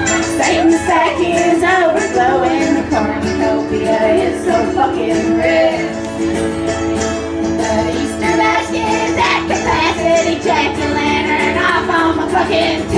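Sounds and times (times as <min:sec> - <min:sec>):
woman singing: 0:00.0 - 0:06.0, 0:07.5 - 0:12.9
plucked and strummed guitars: 0:00.0 - 0:12.9.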